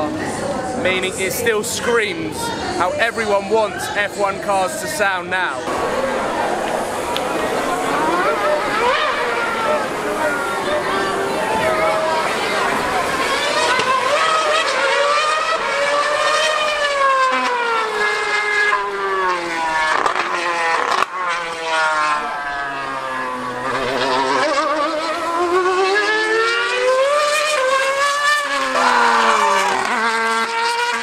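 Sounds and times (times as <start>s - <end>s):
racing car engine screaming: 3.7s - 31.0s.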